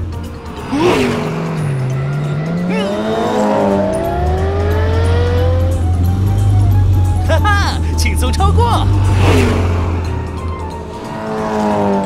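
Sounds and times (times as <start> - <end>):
cartoon car engines revving: 0.0 - 12.0.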